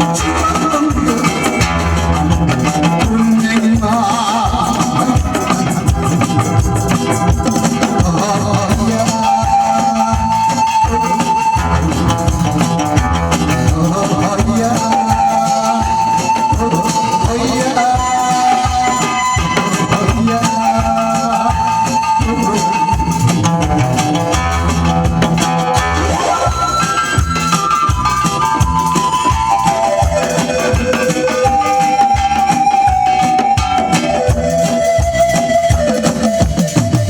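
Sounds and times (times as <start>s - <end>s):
music with steady beat: 0.0s - 37.0s.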